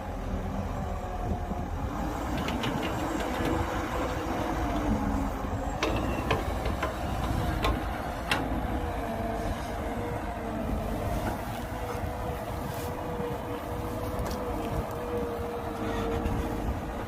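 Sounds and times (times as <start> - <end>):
diesel earthmoving machinery running: 0.0 - 17.0.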